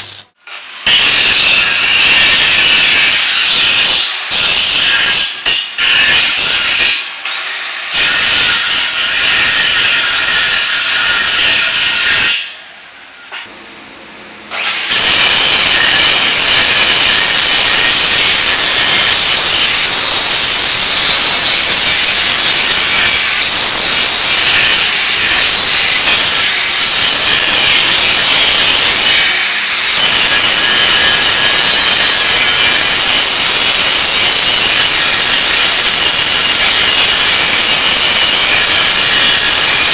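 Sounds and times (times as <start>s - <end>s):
angle grinder grinding steel: 0.0s - 13.5s, 14.5s - 39.9s.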